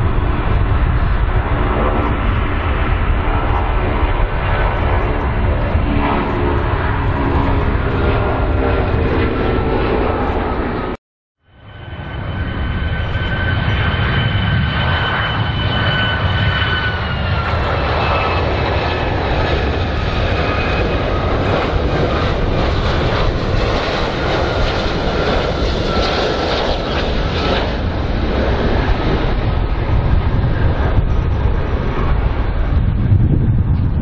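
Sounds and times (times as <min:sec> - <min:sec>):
jet engines rumbling: 0:00.0 - 0:11.0, 0:11.6 - 0:34.0
high jet whine: 0:00.0 - 0:34.0.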